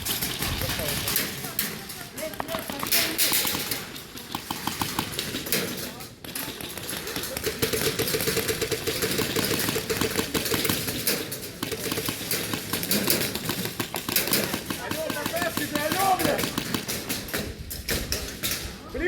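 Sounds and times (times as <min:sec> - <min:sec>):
airsoft guns full-auto bursts: 0:00.0 - 0:17.4.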